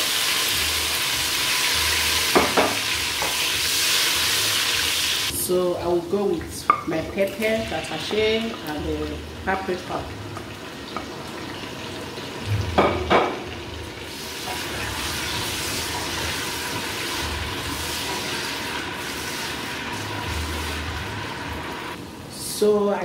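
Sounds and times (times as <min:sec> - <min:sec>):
vegetables frying in oil: 0:00.0 - 0:05.4, 0:06.3 - 0:22.0.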